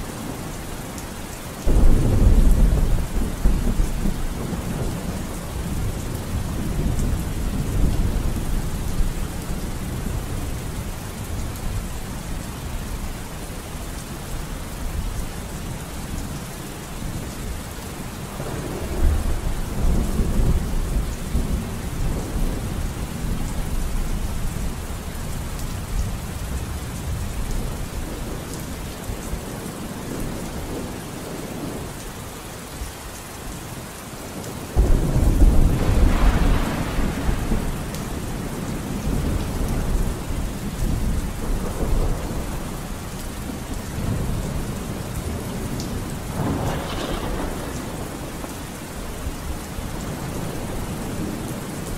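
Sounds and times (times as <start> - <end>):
steady rain: 0.0 - 51.9
low rolling thunder: 1.6 - 12.8, 18.3 - 31.9, 34.8 - 51.9.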